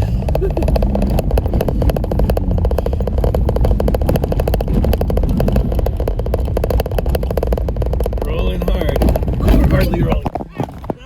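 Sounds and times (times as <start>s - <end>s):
engine and driveline rumble: 0.0s - 11.0s
vehicle rattling and knocking: 0.0s - 11.0s.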